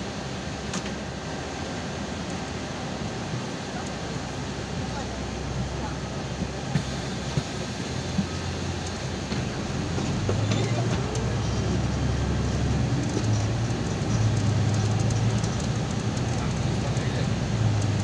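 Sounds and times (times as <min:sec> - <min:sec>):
bus engine hum: 0:00.0 - 0:18.0
road noise: 0:00.0 - 0:18.0.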